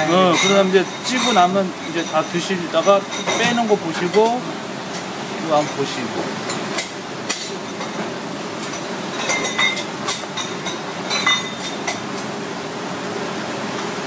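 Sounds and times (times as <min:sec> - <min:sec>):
utensils and dishes clinking: 0:00.0 - 0:12.4
steady background hum: 0:00.0 - 0:14.0.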